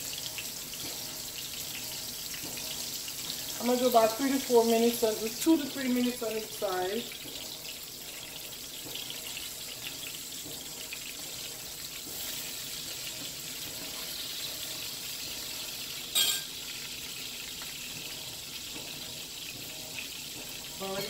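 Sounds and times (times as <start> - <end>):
fish sizzling in a frying pan: 0.0 - 21.0.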